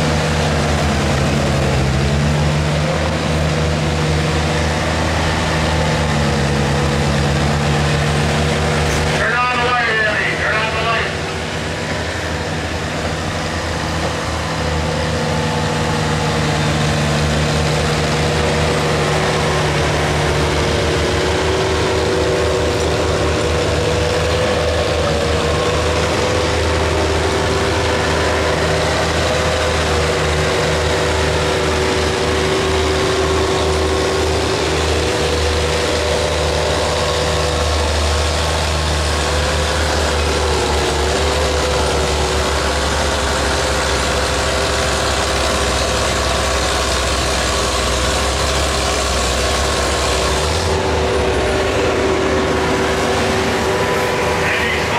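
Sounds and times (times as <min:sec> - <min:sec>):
tractor engine labouring: 0:00.0 - 0:54.9.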